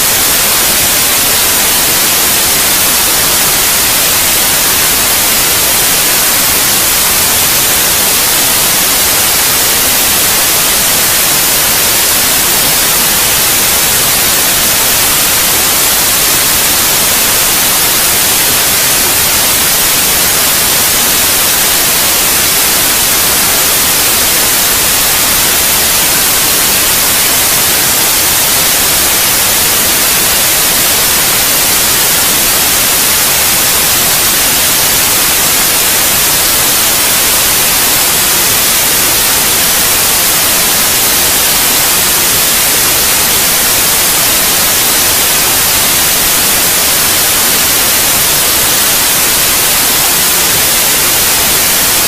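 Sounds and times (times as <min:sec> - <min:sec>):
white noise hiss: 0:00.0 - 0:52.0.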